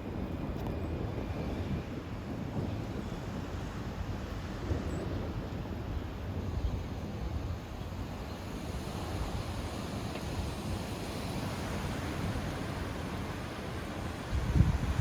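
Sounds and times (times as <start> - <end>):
strong storm wind: 0.0 - 15.0
wind noise on microphone: 0.0 - 15.0.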